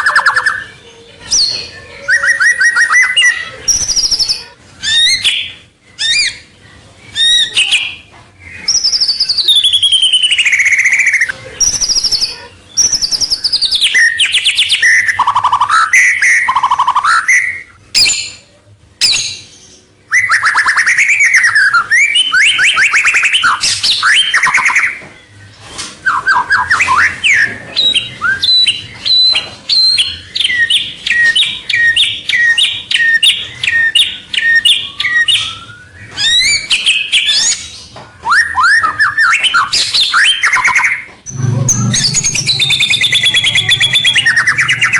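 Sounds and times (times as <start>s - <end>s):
bird singing whistles and trills: 1.3s - 6.5s, 7.1s - 25.4s, 26.0s - 44.9s.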